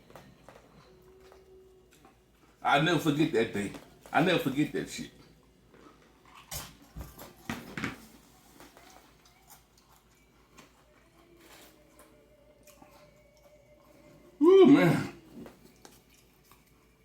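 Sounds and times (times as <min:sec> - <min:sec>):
chewing: 0:00.0 - 0:02.6, 0:05.1 - 0:14.4, 0:15.1 - 0:17.0.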